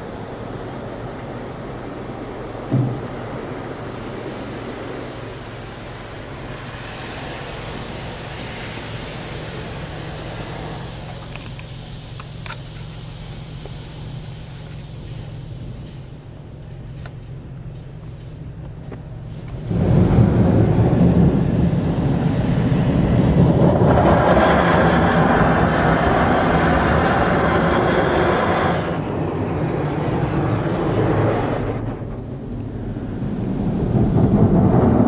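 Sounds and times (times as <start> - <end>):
water spray against car: 0.0 - 35.0.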